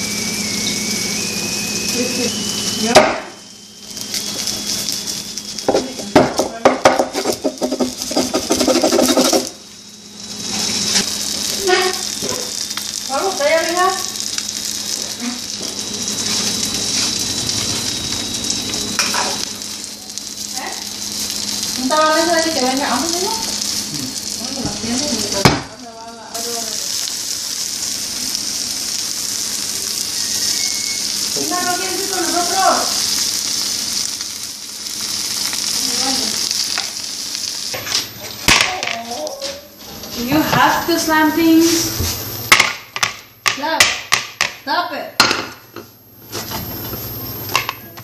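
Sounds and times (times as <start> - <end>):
eggs sizzling in a pan: 0.0 - 48.0.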